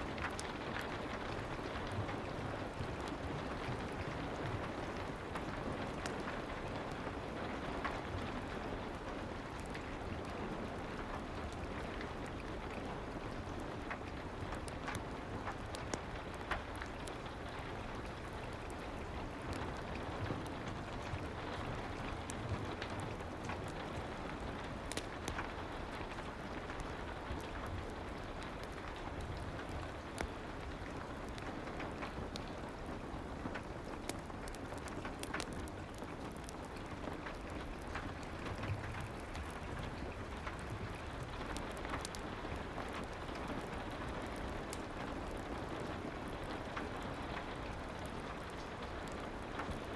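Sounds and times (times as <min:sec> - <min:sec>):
fireplace crackles and pops: 0:00.0 - 0:49.9
soft rain hiss: 0:00.0 - 0:49.9.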